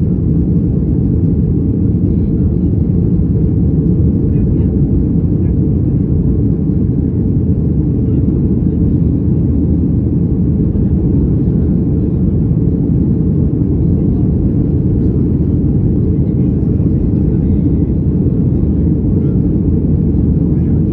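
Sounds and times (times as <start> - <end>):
airplane cabin engine rumble: 0.0 - 20.9.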